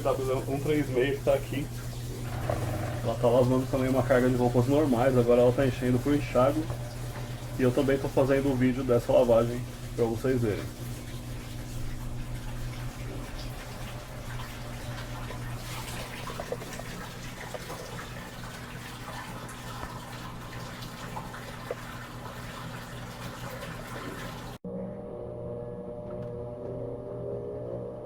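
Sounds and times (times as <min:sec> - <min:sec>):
water running and splashing: 0:00.0 - 0:24.6
drain pump hum: 0:00.0 - 0:28.0.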